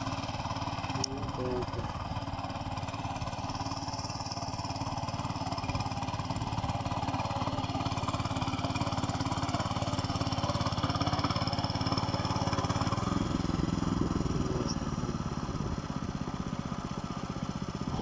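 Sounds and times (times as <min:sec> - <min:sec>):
tiller engine running: 0:00.0 - 0:18.0.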